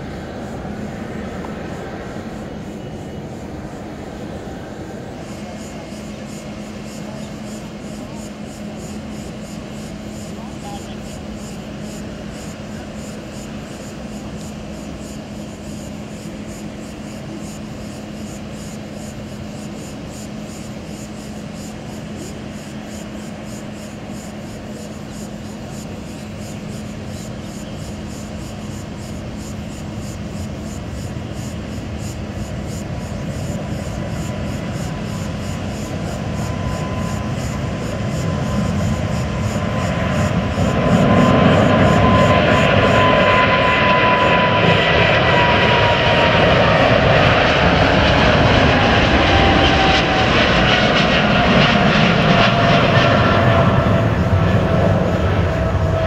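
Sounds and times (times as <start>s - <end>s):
distant jet engines rumbling: 0.0s - 56.0s
high jet fan whine: 0.0s - 56.0s.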